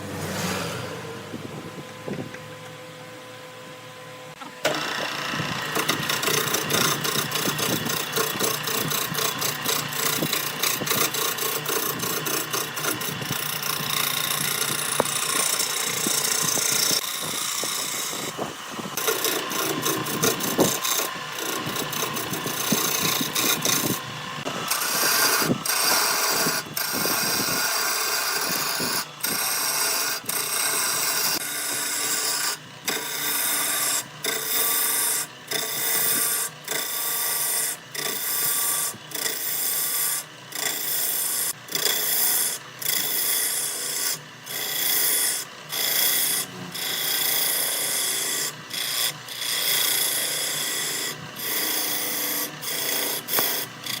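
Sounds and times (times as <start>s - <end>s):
tool scraping spinning wood on lathe: 4.3s - 54.0s.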